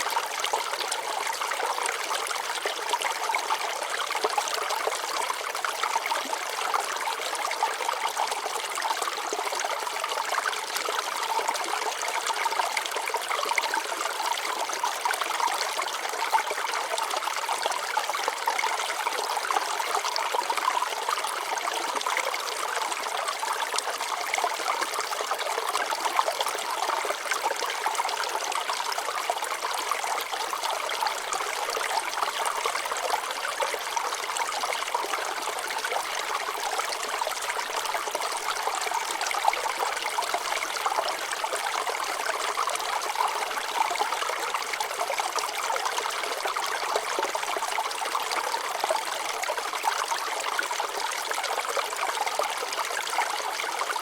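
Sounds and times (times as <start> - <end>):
water trickling over rocks: 0.0 - 54.0.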